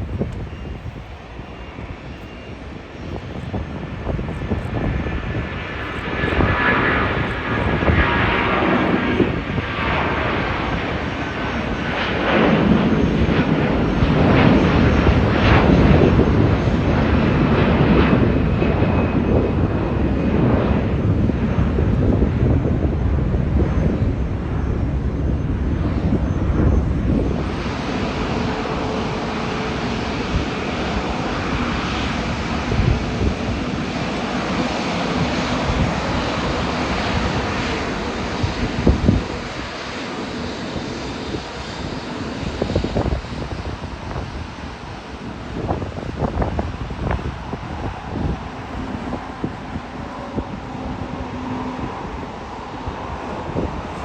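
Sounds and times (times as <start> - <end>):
jet engine taxiing: 0.0 - 54.0
jet taking off: 0.0 - 54.0.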